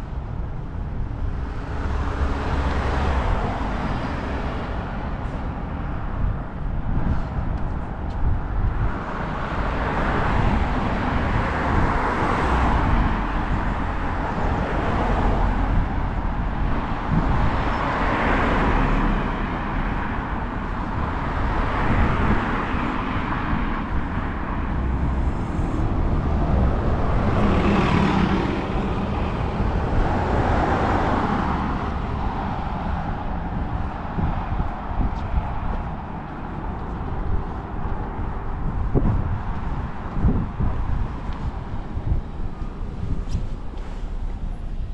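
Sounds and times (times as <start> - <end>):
cars passing: 0.0 - 44.9.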